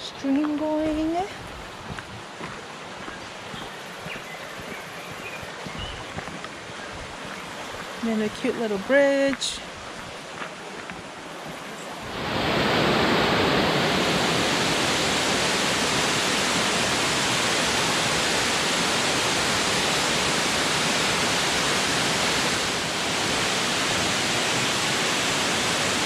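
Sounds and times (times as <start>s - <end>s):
waterfall rushing: 2.6s - 26.0s.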